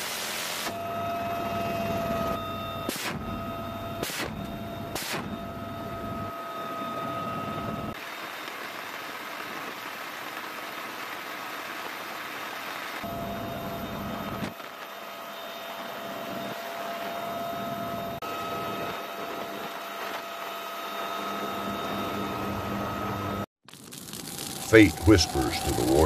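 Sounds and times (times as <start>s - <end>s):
helicopter turbine and rotor: 0.0s - 23.4s.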